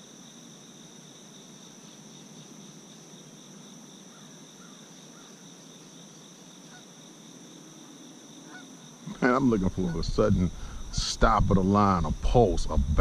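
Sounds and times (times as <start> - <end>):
crickets chorus: 0.0 - 13.0.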